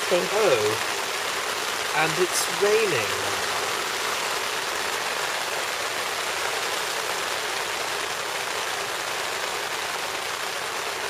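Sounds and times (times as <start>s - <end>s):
rain on tent fabric: 0.0s - 11.0s.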